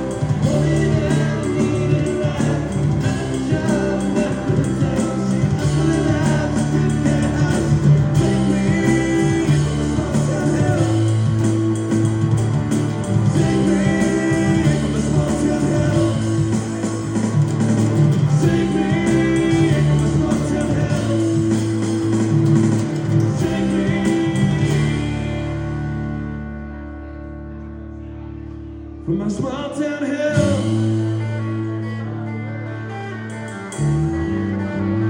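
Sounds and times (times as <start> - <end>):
person singing: 0.0 - 26.4, 29.1 - 33.1
live band playing: 0.0 - 35.0.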